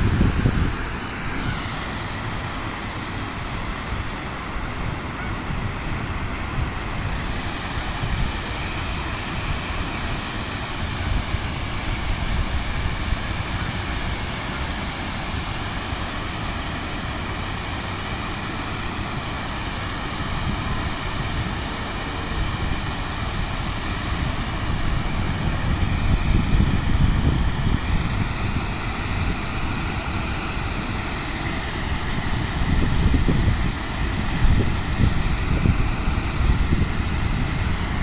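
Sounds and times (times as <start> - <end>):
wind buffeting microphone: 0.0 - 16.0, 20.2 - 38.0.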